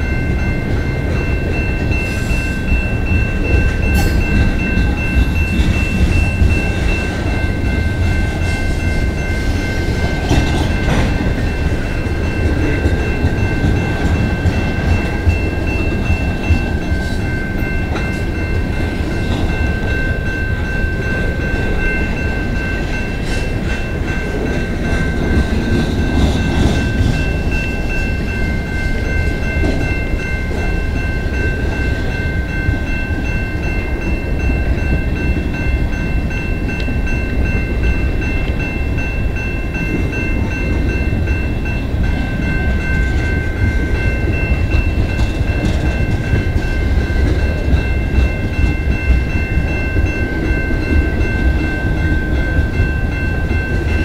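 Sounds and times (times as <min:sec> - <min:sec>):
crossing warning bell ringing: 0:00.0 - 0:54.0
wheel clatter on rail joints: 0:00.0 - 0:54.0.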